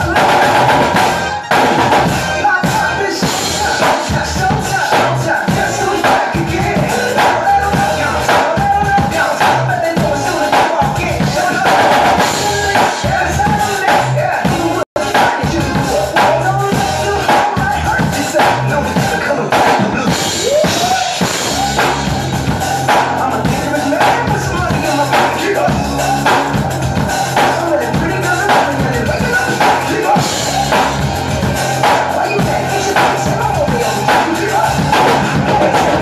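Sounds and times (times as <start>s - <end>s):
drum kit groove: 0.0s - 36.0s
music with bass and melody: 0.0s - 36.0s.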